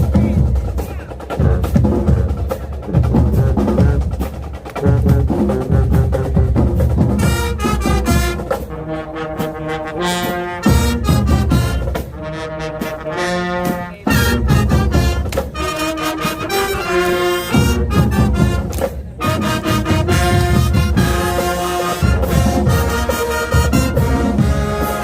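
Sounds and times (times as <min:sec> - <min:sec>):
marching band drums: 0:00.0 - 0:25.0
brass punched chords: 0:04.8 - 0:25.0.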